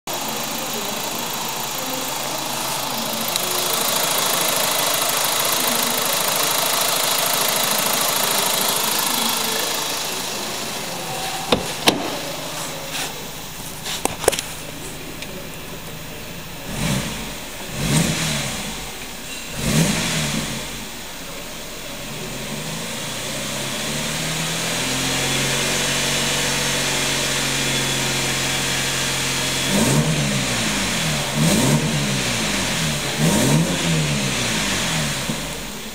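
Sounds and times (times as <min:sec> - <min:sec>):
car engine running and revving: 0:00.0 - 0:35.9.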